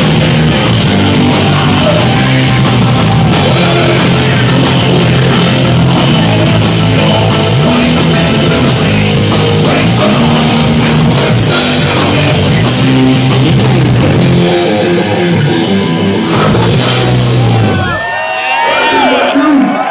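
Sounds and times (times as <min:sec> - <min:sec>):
drum kit: 0:00.0 - 0:18.0
bass guitar: 0:00.0 - 0:18.2
electric guitars: 0:00.0 - 0:19.0.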